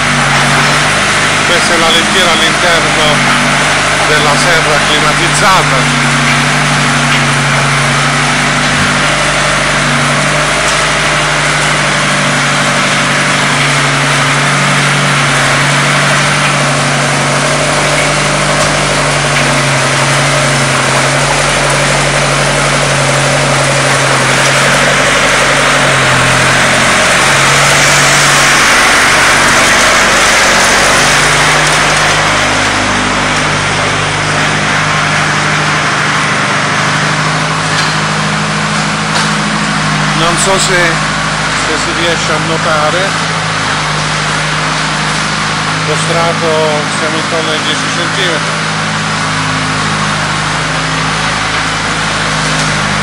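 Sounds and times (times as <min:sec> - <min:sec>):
tracked vehicle engine running: 0:00.0 - 0:53.0.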